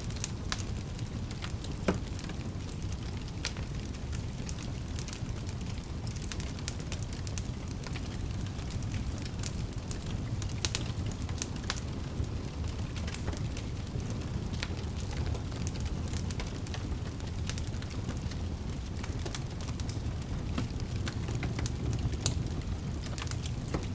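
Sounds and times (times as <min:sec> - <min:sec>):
fire crackling and popping: 0:00.0 - 0:23.9
fire rumbling: 0:00.0 - 0:23.9.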